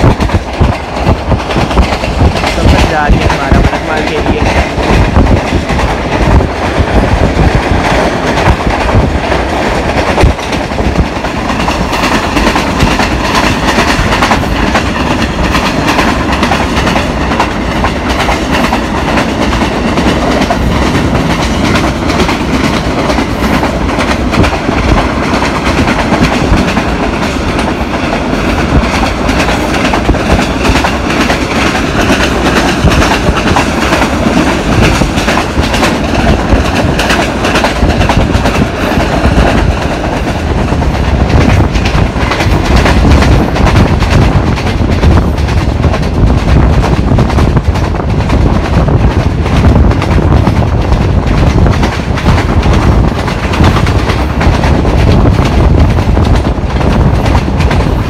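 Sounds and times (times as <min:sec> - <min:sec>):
train coach rumbling on rails: 0:00.0 - 0:58.0
train wheels clacking over track: 0:00.0 - 0:58.0.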